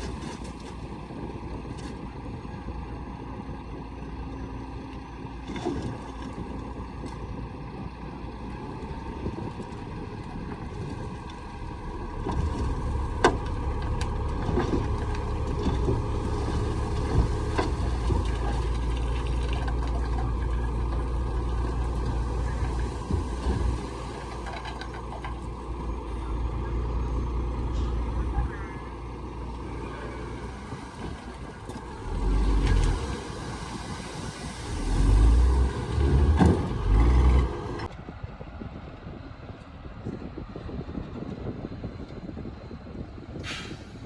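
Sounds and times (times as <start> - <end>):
diesel earthmoving machinery running: 0.0 - 44.0.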